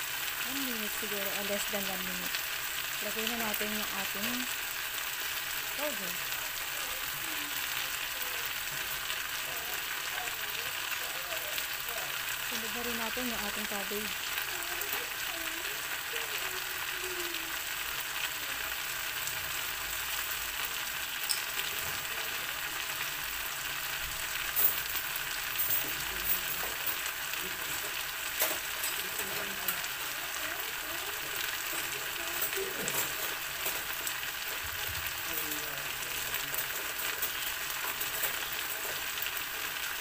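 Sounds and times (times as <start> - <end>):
vegetables sizzling in a wok: 0.0 - 40.0.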